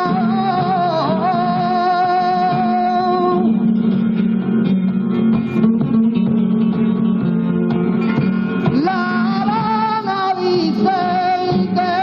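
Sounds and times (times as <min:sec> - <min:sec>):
flamenco guitar playing: 0:00.0 - 0:12.0.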